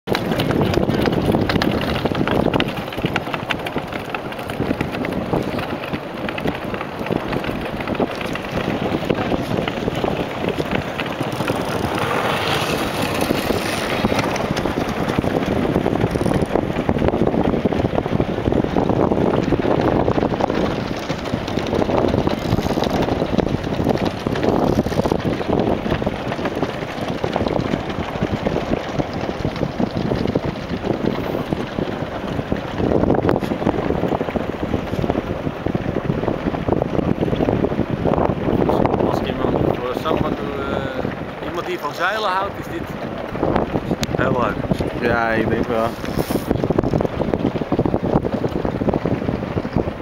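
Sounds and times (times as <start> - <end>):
wind buffeting microphone: 0.0 - 50.0
blades scraping over rough ice: 0.1 - 17.1, 19.5 - 35.2, 38.6 - 47.6.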